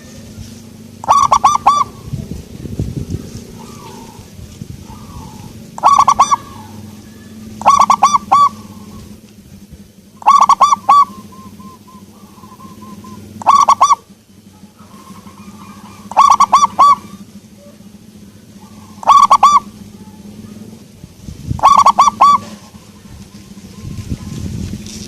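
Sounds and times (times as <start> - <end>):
dove cooing: 0.0 - 24.5.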